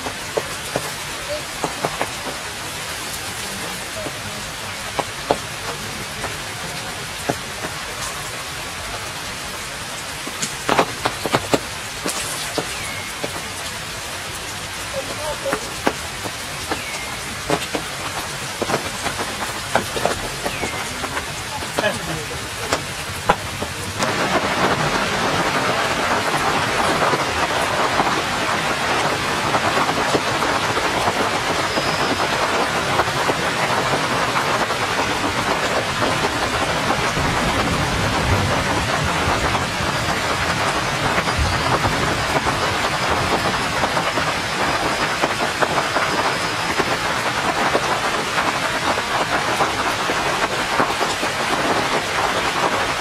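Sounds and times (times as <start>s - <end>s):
rain falling on wet ground: 0.0s - 53.0s.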